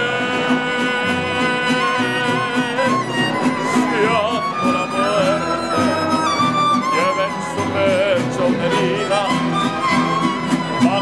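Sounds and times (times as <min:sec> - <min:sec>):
strummed guitar rhythm: 0:00.0 - 0:11.0
violins with vibrato: 0:00.0 - 0:11.0.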